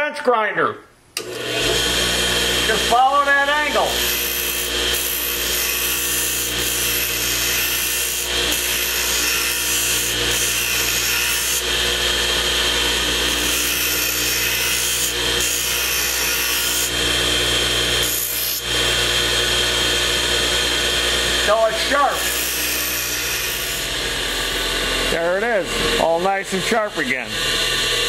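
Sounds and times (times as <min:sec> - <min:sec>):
grinder motor hum: 0:01.2 - 0:28.0.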